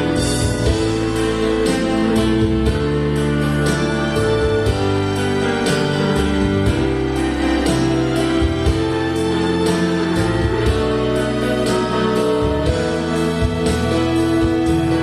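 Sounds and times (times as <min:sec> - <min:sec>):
backing track with steady beat: 0:00.0 - 0:15.0.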